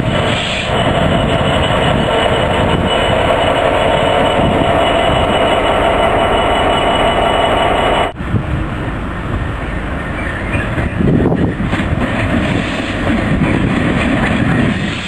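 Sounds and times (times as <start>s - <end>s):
diesel locomotive engine rumble: 0.0s - 15.0s
freight wagons rumbling past: 0.0s - 15.0s.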